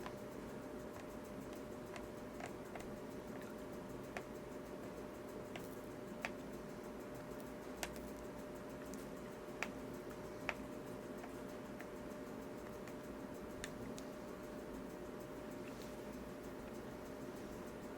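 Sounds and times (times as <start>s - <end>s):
low hum with faint tone: 0.0s - 17.9s
soldering clicks and ticks: 0.0s - 17.9s.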